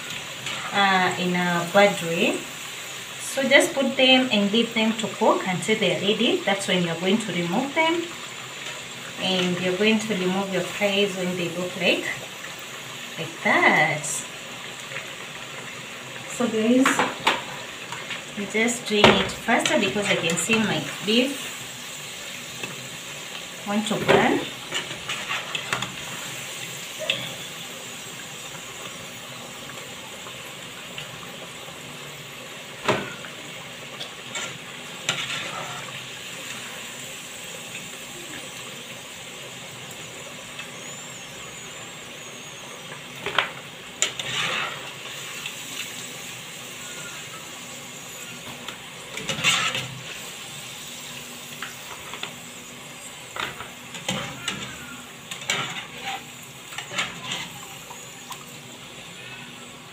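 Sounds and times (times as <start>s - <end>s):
fries sizzling in oil: 0.0s - 59.9s.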